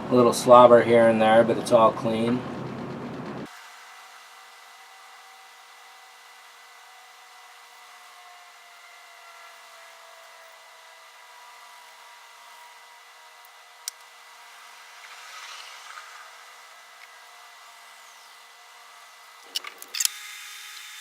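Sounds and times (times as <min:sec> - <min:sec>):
faint hum with whining tones: 0:00.0 - 0:21.0.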